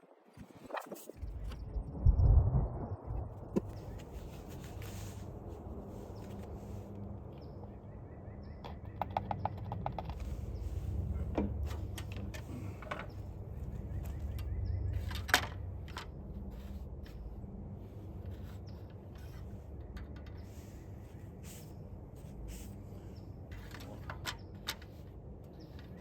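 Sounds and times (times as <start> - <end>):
low steady rumble: 1.2 - 8.6, 9.4 - 24.0.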